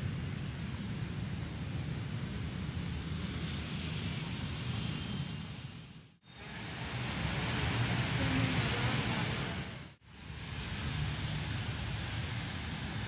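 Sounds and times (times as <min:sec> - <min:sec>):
traffic rumble: 0:00.0 - 0:13.0
wind: 0:00.0 - 0:13.0.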